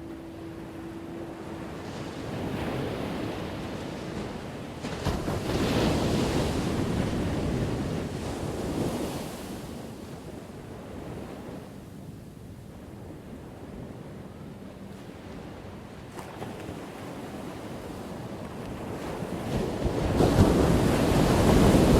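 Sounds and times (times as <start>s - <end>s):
ocean waves crashing on shore: 0.0s - 21.9s.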